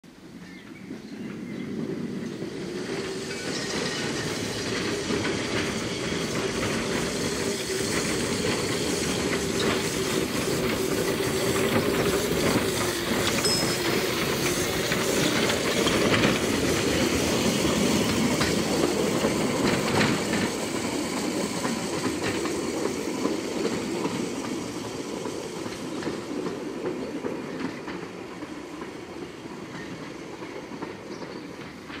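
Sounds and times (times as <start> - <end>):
rail trolley motor running: 1.6 - 32.0
wheels clattering over rail joints: 2.0 - 29.0.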